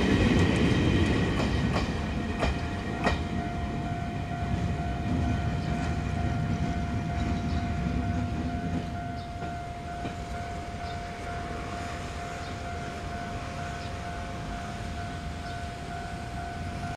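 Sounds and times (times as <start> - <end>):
diesel locomotive rumble: 0.0 - 16.9
steady high tone: 2.0 - 16.9.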